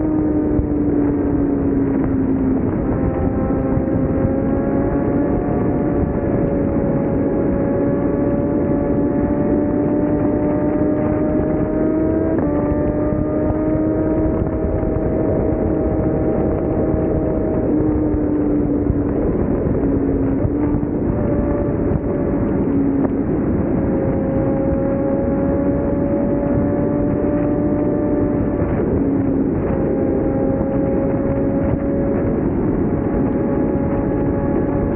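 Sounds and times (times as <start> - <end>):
motorcycle engine at high revs: 0.0 - 34.9
wind noise: 0.0 - 34.9.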